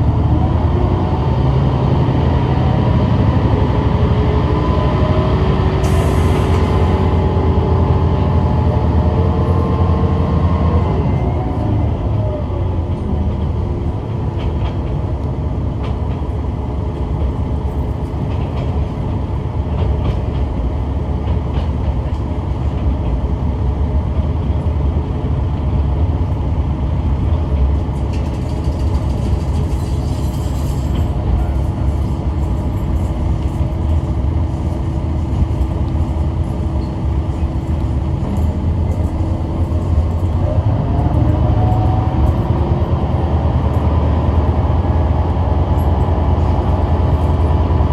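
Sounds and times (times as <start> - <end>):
diesel railcar engine and wheels rumbling: 0.0 - 47.9.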